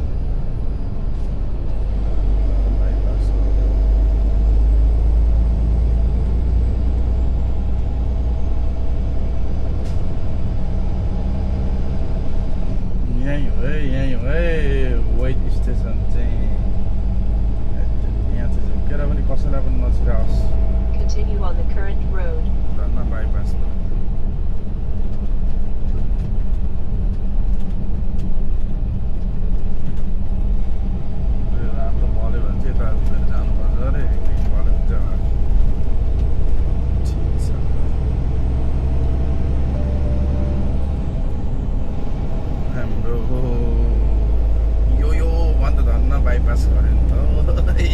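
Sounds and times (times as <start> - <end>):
truck diesel engine and road noise: 0.0 - 47.9.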